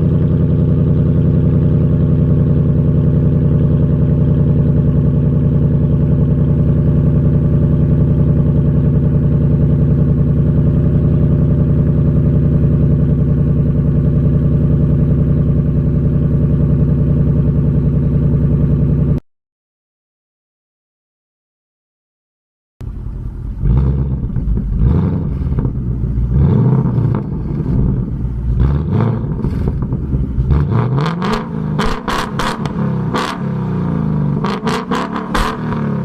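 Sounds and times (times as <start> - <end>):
car engine idling: 0.0 - 19.2, 22.8 - 36.0.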